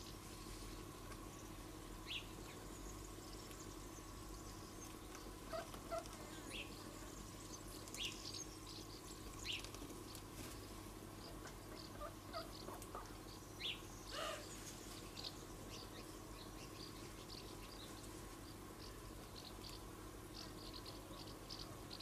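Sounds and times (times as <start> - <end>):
faint background hum: 0.0 - 22.0.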